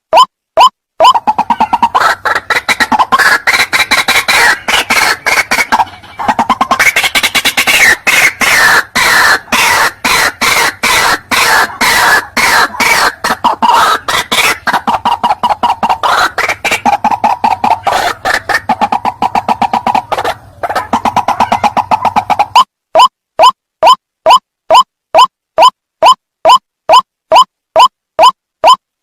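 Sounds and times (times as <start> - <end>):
waterhen harsh clucking calls: 0.1 - 28.8.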